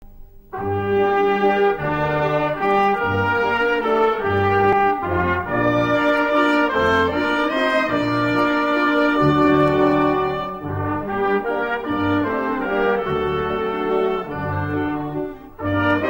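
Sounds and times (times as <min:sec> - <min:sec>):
brass chords: 0:00.0 - 0:16.0.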